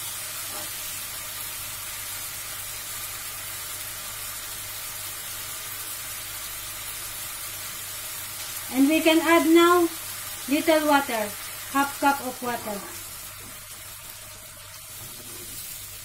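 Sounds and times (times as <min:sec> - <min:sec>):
chicken sizzling in frying pan: 0:00.0 - 0:16.0.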